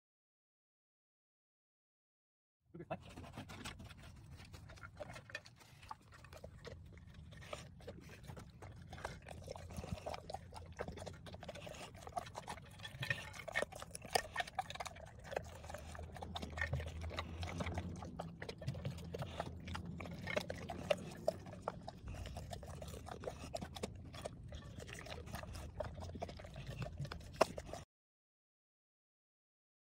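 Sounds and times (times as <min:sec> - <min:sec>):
dog chewing and licking: 0:02.9 - 0:27.8.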